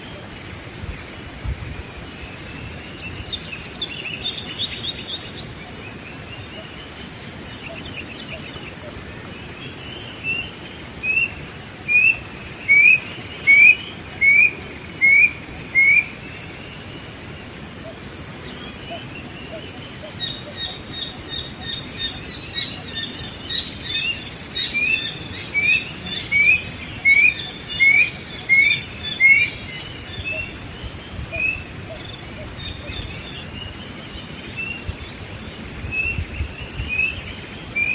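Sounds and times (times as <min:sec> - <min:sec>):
high insect drone: 0:00.0 - 0:37.9.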